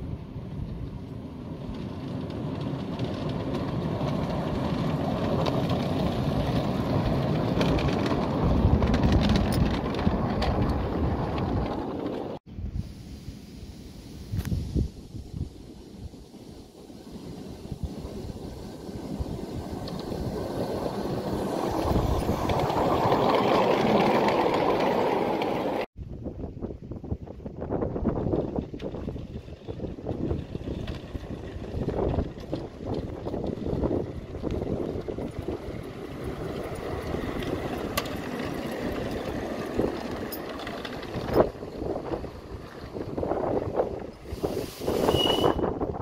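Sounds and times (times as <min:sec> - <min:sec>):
miniature steam train passing: 0:00.0 - 0:12.4, 0:13.0 - 0:25.9, 0:27.6 - 0:46.0
wheels clattering on track: 0:00.1 - 0:12.4, 0:16.7 - 0:25.9, 0:27.8 - 0:45.9.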